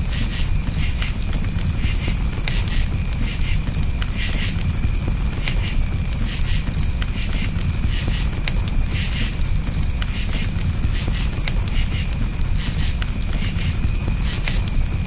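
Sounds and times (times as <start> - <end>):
campfire crackling and popping: 0.0 - 15.0
crickets chirping: 0.0 - 15.0.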